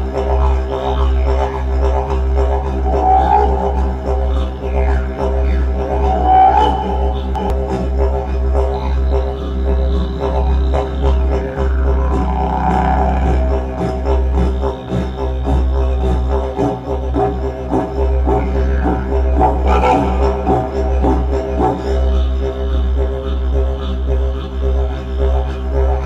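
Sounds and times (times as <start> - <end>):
didgeridoo drone: 0.0 - 26.0.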